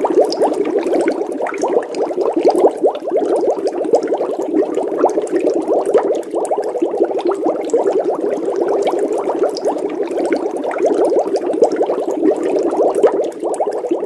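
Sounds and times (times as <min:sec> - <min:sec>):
water bubbling: 0:00.0 - 0:14.0.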